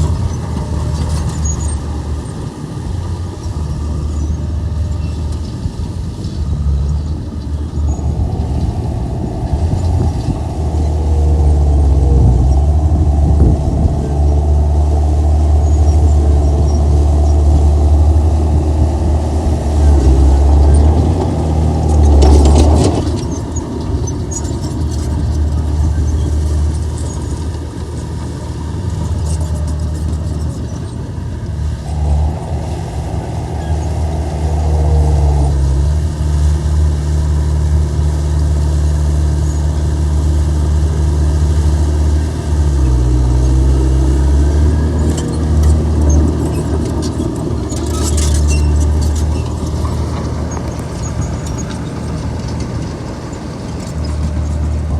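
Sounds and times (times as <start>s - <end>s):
rattling noise: 0.0s - 38.4s, 39.6s - 54.9s
bulldozer diesel engine running: 0.0s - 54.9s.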